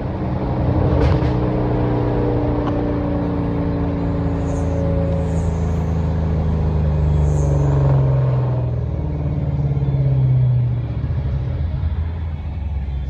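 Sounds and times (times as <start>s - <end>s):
car engine and exhaust rumbling: 0.0s - 13.0s.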